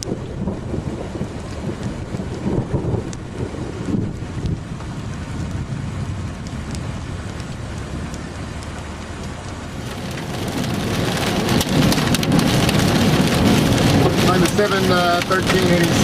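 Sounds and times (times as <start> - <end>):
rain hitting a vehicle: 0.0 - 16.0.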